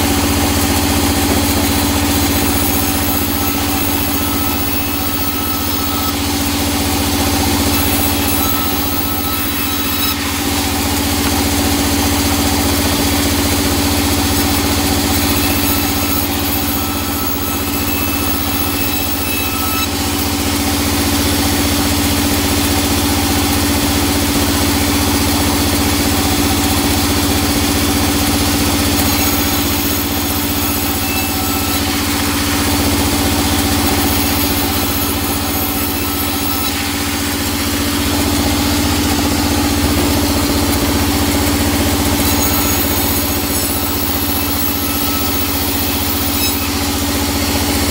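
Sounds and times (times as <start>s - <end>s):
band saw cutting wood: 0.0s - 47.9s.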